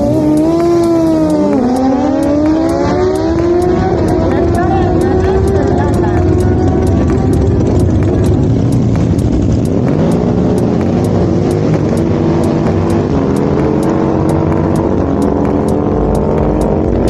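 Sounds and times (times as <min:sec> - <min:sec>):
motorcycle engine running loud: 0:00.0 - 0:17.0.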